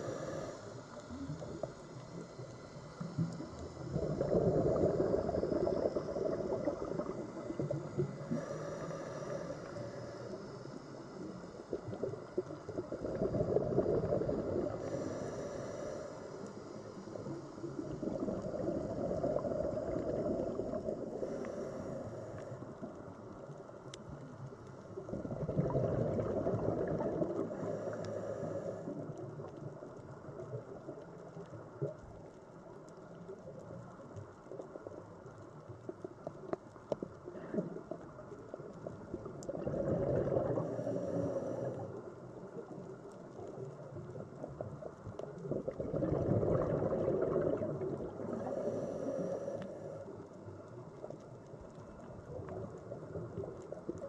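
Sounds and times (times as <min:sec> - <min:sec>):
exhaled bubbles gurgling underwater: 0:00.0 - 0:54.0.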